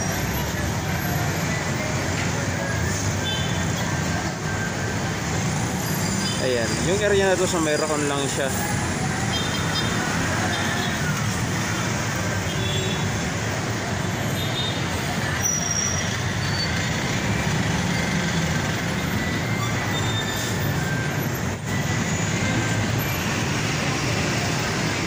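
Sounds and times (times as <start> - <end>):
idling traffic engine rumble: 0.0 - 25.0.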